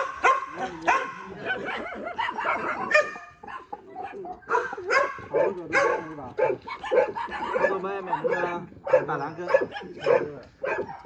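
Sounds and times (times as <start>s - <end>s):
dog yelping and barking: 0.0s - 11.0s.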